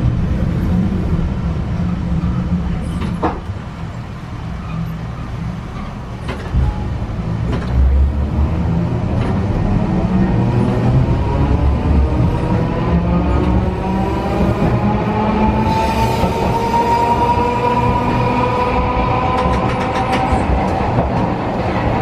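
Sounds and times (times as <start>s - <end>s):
tram running gear rumble: 0.0s - 22.0s.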